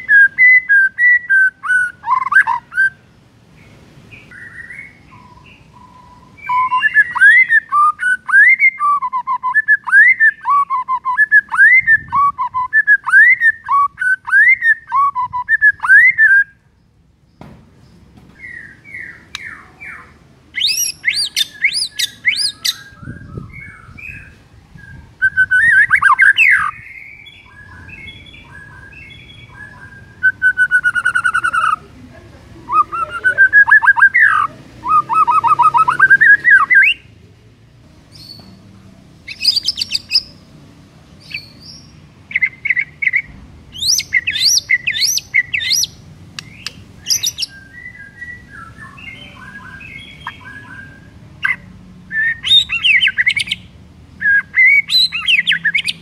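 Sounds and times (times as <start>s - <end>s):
songbird singing whistled phrases: 0.0s - 3.0s, 4.1s - 16.7s, 18.4s - 31.8s, 32.7s - 37.1s, 39.3s - 40.4s, 41.2s - 56.0s.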